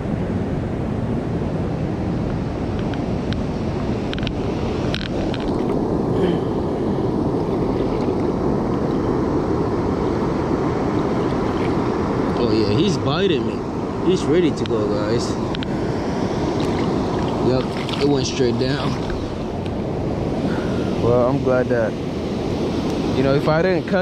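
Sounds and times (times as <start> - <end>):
river water rushing along wall: 0.0 - 24.0
wind buffeting microphone: 0.0 - 24.0.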